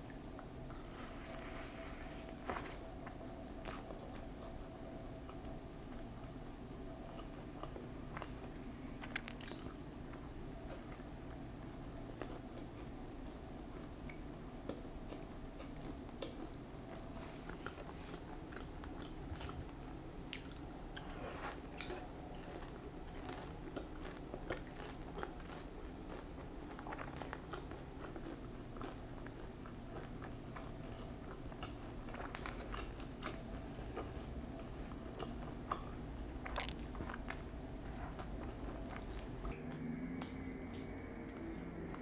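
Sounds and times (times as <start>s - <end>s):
wet chewing: 2.2s - 6.1s, 6.9s - 39.6s.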